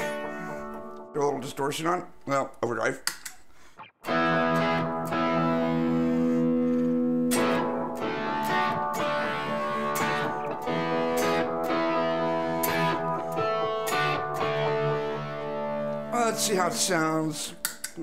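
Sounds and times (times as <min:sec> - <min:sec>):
overdriven electric guitar chords: 0:00.0 - 0:01.2, 0:03.8 - 0:18.0.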